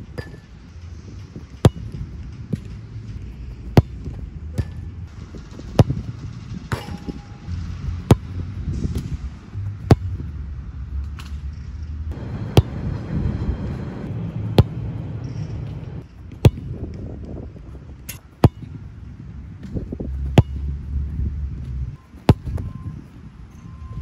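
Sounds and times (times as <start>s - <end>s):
low outdoor rumble: 0.0s - 24.0s
soccer ball kicks: 0.1s - 17.7s, 18.3s - 18.8s, 19.6s - 23.0s.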